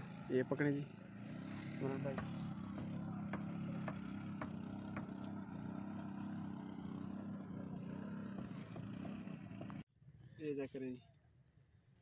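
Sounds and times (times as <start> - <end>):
low engine-like drone: 0.0 - 9.8.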